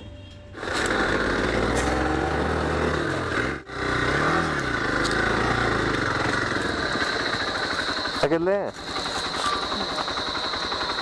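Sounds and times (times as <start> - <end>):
motorcycle engine revving: 0.5 - 11.0.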